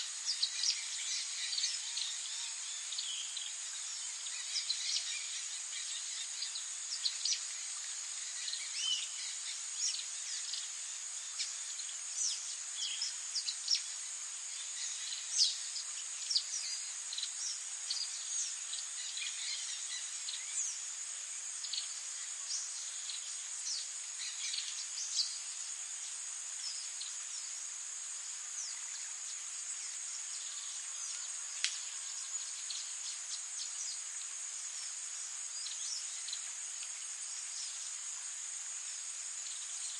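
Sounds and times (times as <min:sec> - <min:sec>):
high insect trill: 0:00.0 - 0:39.9
songbirds chirping: 0:00.0 - 0:39.9.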